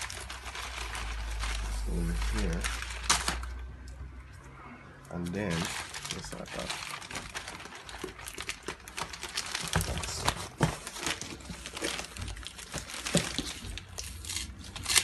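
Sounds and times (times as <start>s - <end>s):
plastic packaging crinkling: 0.0s - 3.6s, 5.1s - 15.0s.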